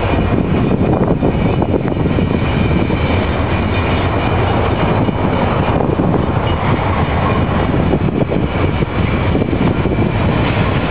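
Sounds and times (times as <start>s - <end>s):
freight train rumbling on rails: 0.0s - 10.9s.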